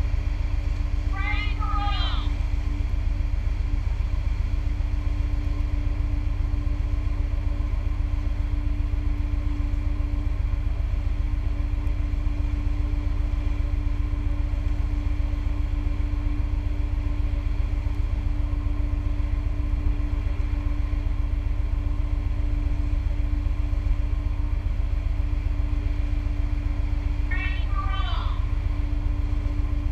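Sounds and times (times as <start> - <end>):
boat engine running: 0.0 - 29.9.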